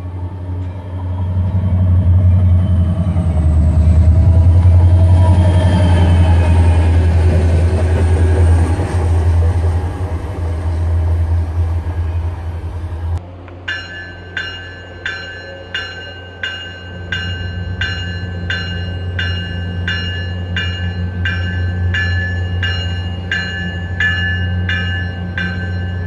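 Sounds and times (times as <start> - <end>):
diesel locomotive engine rumble: 0.0 - 26.0
train wheel and rail noise: 0.0 - 26.0.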